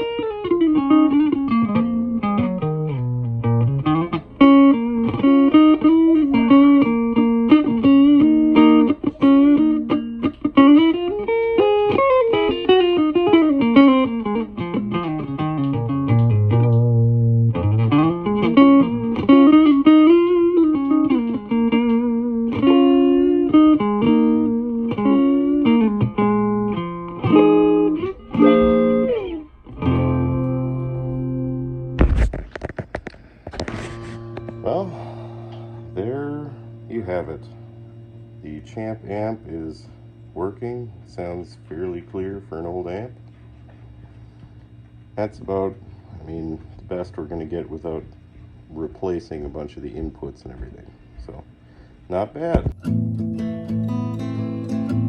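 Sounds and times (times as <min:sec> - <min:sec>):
electric guitar sliding notes: 0:00.0 - 0:43.2, 0:52.6 - 0:55.0.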